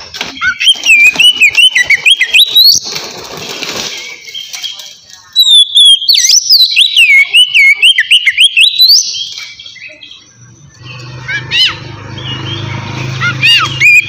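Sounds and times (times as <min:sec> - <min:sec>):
bird call: 0:00.2 - 0:02.8, 0:04.0 - 0:14.0
bird singing whistled notes: 0:00.4 - 0:02.8, 0:04.2 - 0:14.0.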